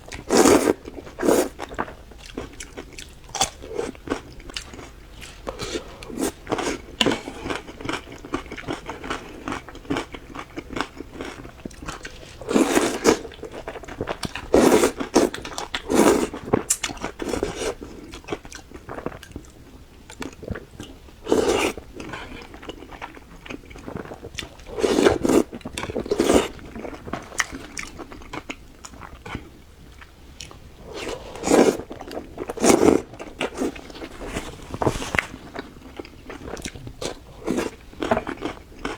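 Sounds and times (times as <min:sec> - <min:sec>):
person chewing with mouth clicks: 0:00.1 - 0:38.9.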